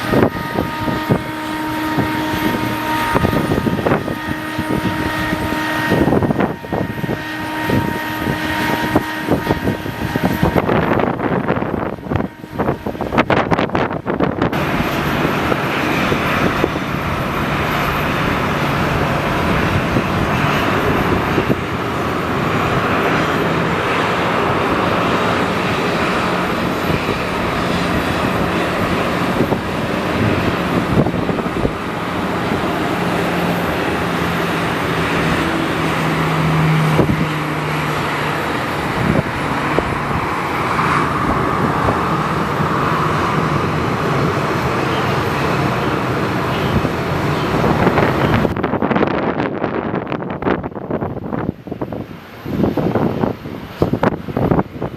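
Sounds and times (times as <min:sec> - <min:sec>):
jet engines roaring: 0:00.0 - 0:54.9.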